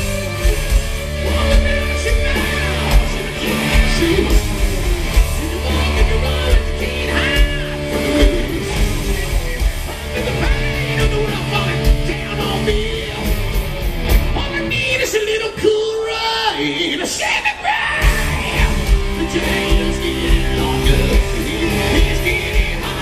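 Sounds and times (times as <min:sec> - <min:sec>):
person singing: 0:00.0 - 0:04.7, 0:05.4 - 0:13.3, 0:14.5 - 0:23.0
hard rock band playing live: 0:00.0 - 0:23.0.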